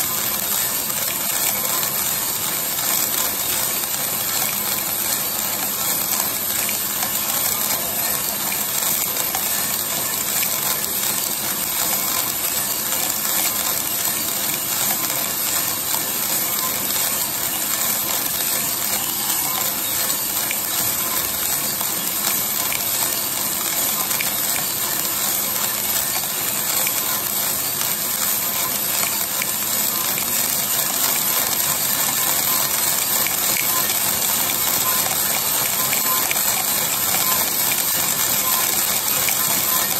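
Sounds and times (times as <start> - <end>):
coffee beans rattling in drum: 0.0 - 39.9.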